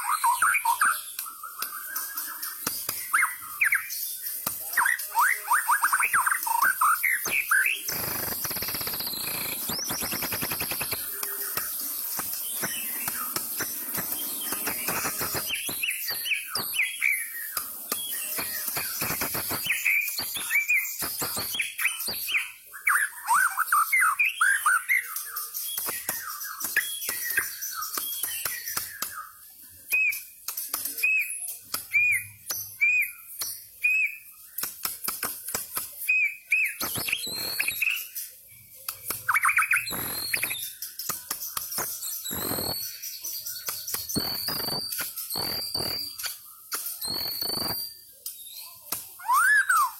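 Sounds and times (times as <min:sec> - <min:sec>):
songbird singing clicks and whistles: 0:00.0 - 0:49.9.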